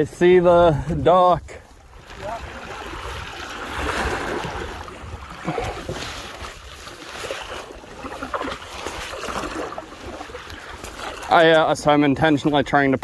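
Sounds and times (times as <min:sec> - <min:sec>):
wind rumble on microphone: 0:00.0 - 0:11.3
paddles splashing in water: 0:00.0 - 0:13.0.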